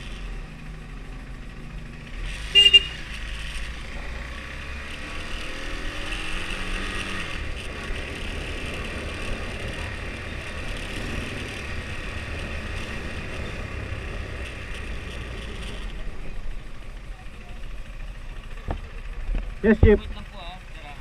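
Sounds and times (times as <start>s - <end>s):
motorcycle engine rumble: 0.0s - 21.0s
road noise: 0.0s - 21.0s.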